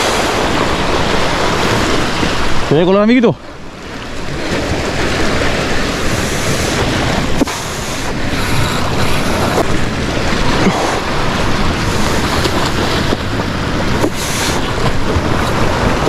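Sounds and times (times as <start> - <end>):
sea surf washing: 0.0 - 16.0
wind buffeting microphone: 0.0 - 16.0.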